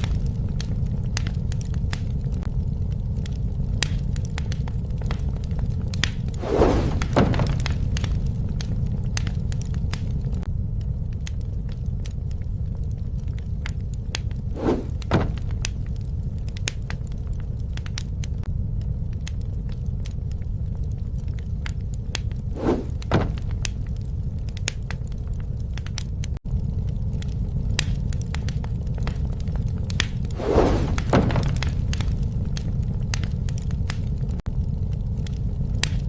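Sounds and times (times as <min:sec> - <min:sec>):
loud fire pops: 0:00.0 - 0:36.0
wood fire crackling: 0:00.0 - 0:36.0.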